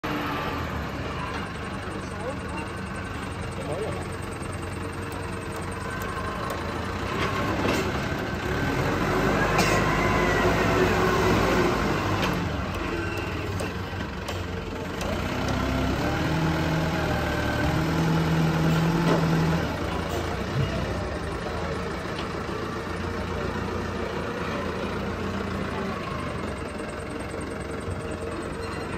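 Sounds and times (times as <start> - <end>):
diesel engine revving: 0.0 - 28.9.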